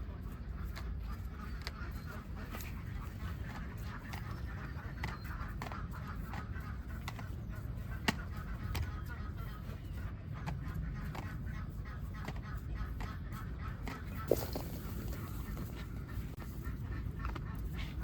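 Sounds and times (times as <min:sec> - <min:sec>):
steady low rumble: 0:00.0 - 0:18.0
ducks quacking: 0:00.1 - 0:18.0.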